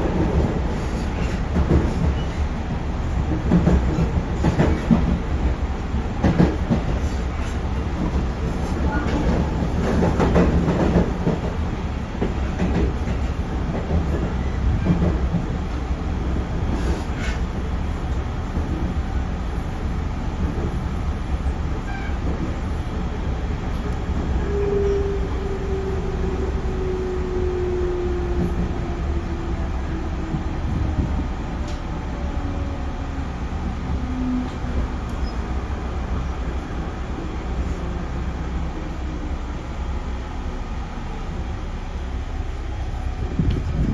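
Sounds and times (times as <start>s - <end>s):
train interior rumble: 0.0s - 43.9s.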